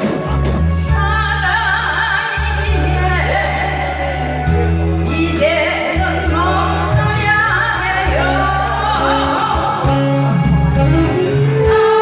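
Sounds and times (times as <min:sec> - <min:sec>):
person singing with vibrato: 0:00.0 - 0:12.0
sustained bass notes: 0:00.0 - 0:12.0.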